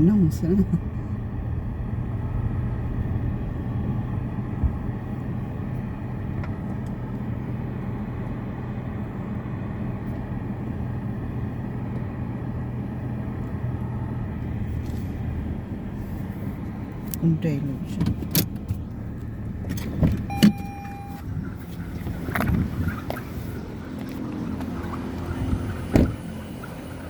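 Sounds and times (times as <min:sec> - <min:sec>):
low mechanical rumble and hum: 0:00.0 - 0:27.0.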